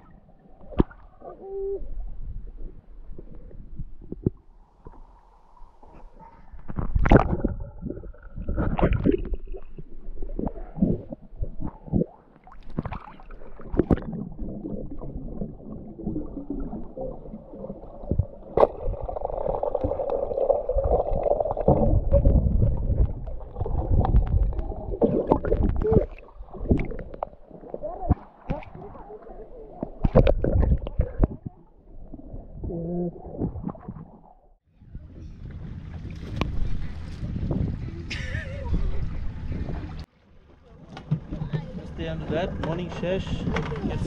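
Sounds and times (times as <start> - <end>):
water sloshing and gurgling: 0.0 - 44.0.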